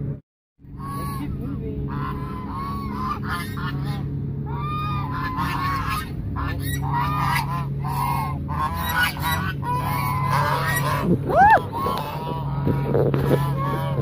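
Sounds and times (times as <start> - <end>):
geese honking: 0.7 - 14.0.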